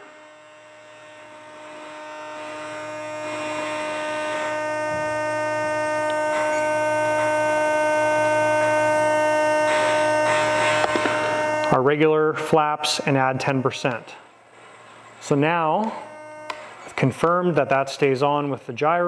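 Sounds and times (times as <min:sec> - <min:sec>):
electrical hum and buzz: 0:00.0 - 0:19.0.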